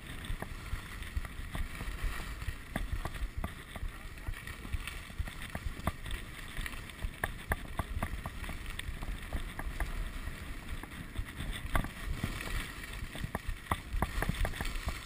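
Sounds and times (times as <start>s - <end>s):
ski edges scraping snow: 0.0s - 15.0s
wind on microphone: 0.0s - 15.0s.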